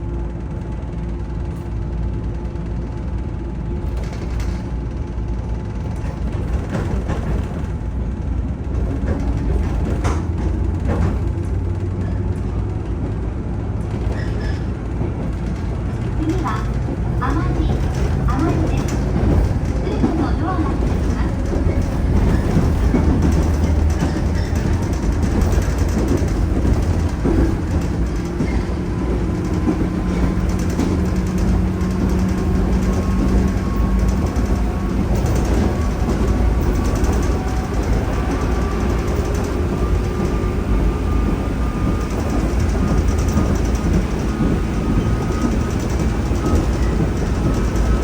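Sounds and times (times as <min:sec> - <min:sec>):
train running at speed: 0:00.0 - 0:48.0.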